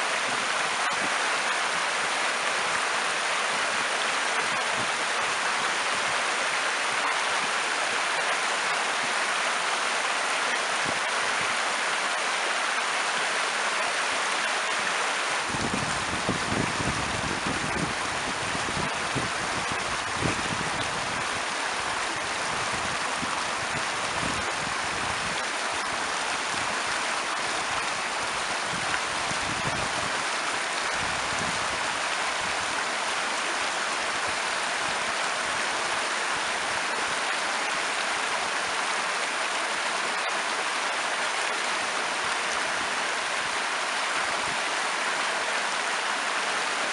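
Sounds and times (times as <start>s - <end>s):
river water rushing over rocks: 0.0s - 46.9s.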